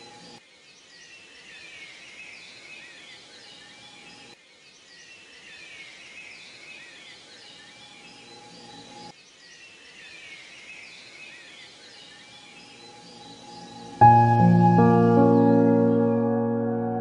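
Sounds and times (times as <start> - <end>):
small birds chirping: 0.0 - 16.1.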